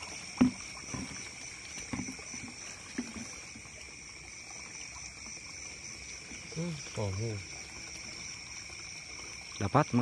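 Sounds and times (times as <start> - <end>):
night insects buzzing: 0.0 - 10.0.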